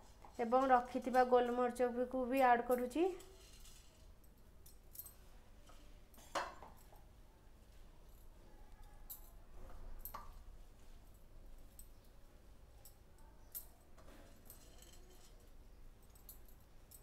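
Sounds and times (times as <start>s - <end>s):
small clinks: 2.6s - 17.0s.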